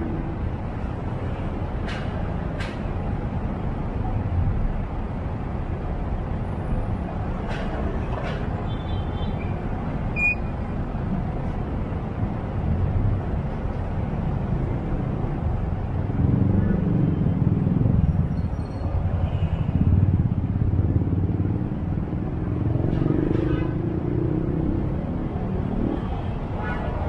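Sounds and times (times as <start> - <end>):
engines idling in traffic: 0.0 - 27.0.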